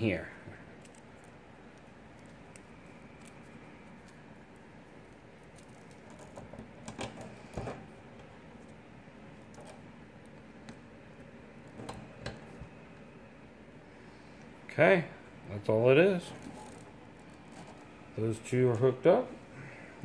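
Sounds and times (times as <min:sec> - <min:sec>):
cables rustling: 0:00.0 - 0:14.7, 0:15.4 - 0:20.0.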